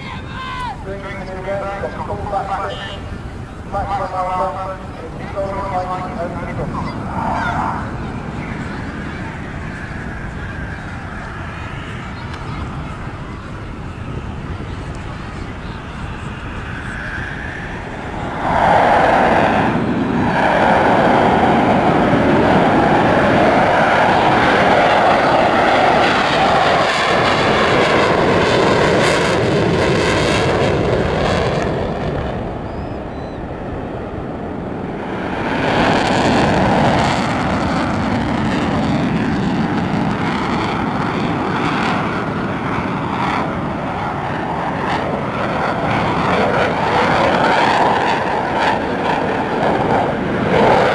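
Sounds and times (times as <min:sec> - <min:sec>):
jet aircraft flying: 0:00.0 - 0:50.9.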